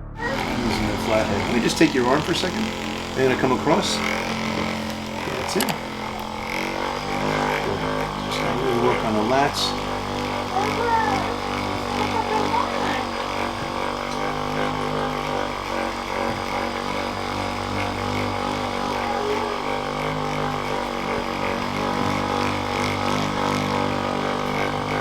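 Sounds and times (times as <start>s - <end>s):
electric motor hum: 0.0s - 25.0s.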